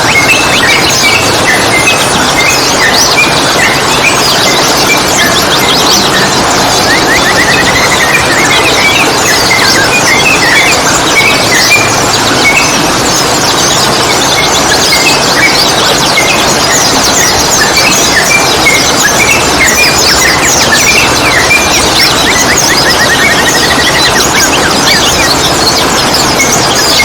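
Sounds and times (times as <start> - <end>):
songbirds chirping chorus: 0.0 - 27.0.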